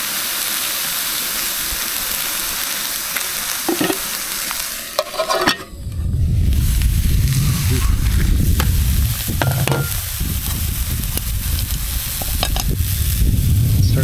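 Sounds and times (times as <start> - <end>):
cutlets sizzling in a pan: 0.0 - 5.8, 6.4 - 14.0.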